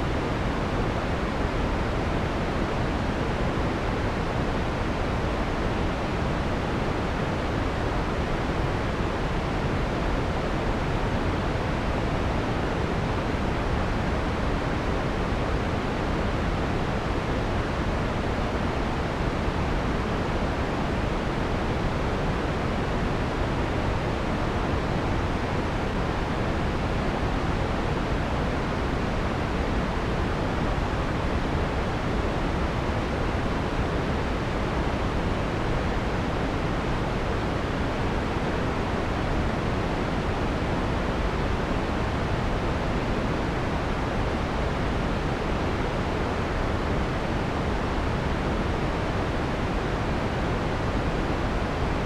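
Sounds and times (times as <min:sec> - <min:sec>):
dark filtered white noise: 0:00.0 - 0:52.0.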